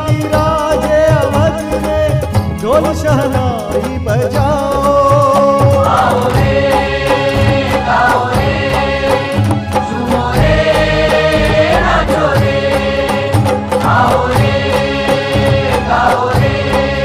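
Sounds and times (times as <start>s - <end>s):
devotional song with held notes: 0.0s - 17.0s
steady percussion beat: 0.0s - 17.0s.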